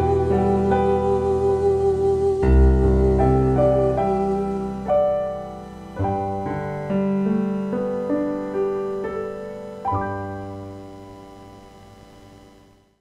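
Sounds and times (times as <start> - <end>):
piano playing slow hymn chords: 0.0 - 13.0.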